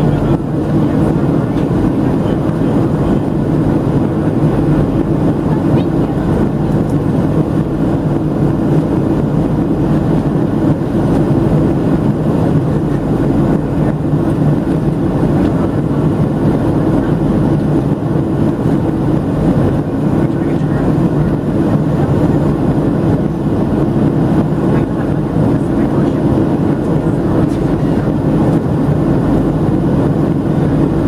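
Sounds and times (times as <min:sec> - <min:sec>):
jet engine cabin drone: 0:00.0 - 0:31.0.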